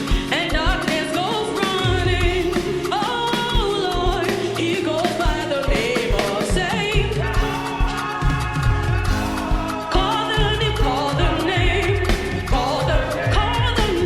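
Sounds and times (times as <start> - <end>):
band with keyboard and bass: 0.0 - 14.0
gospel singing: 0.0 - 14.0
steady drum beat: 0.0 - 14.0.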